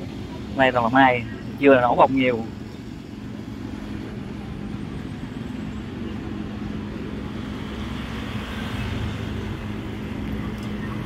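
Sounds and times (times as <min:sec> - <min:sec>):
traffic engine hum: 0:00.0 - 0:11.0.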